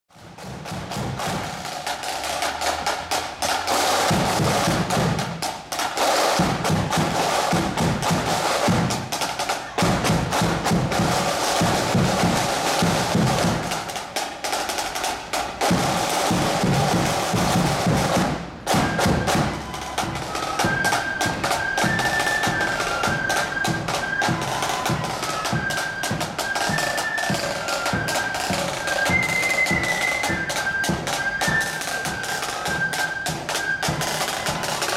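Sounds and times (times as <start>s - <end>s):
snare and bass drums marching beat: 0.1s - 34.9s
flute melody: 0.7s - 14.0s, 14.9s - 34.9s.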